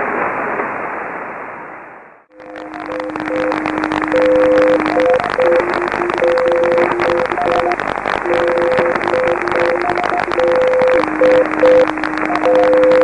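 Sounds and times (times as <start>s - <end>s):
radio static hiss and crackle: 2.3s - 13.0s
morse code beeping tones: 2.4s - 13.0s.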